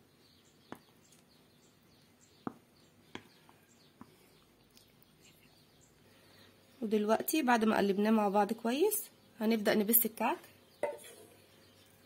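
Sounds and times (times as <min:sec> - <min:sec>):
faint bird chirps: 0:00.0 - 0:07.0, 0:08.8 - 0:12.0.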